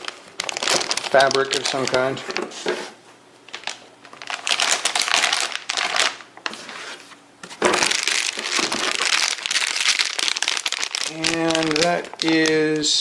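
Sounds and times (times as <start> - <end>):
hard plastic packaging crinkling: 0.0 - 2.7, 3.4 - 13.0.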